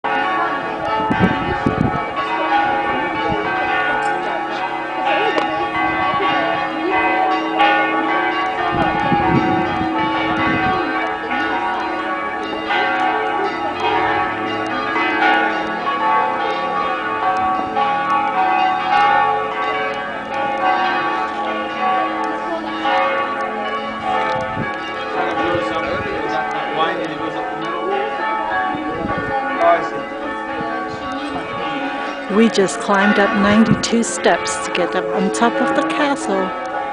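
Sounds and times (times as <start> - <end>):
church bells ringing: 0.1 - 36.9.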